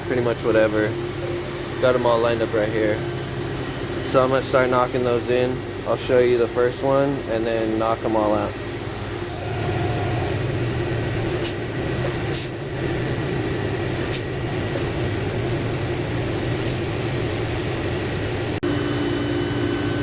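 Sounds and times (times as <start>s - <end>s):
fan mechanical hum: 0.0s - 20.0s.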